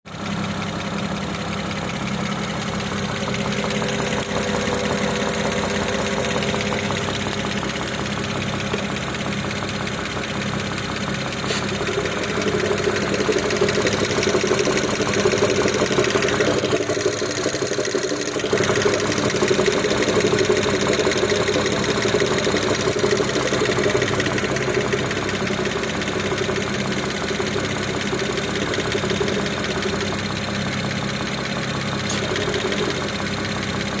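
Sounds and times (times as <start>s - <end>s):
engine idling with rapid knock: 0.1s - 34.0s.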